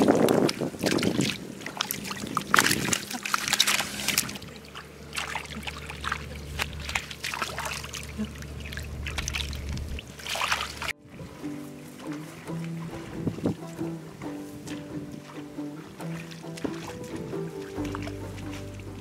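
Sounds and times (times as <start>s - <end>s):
splashing in shallow water: 0.0s - 19.0s.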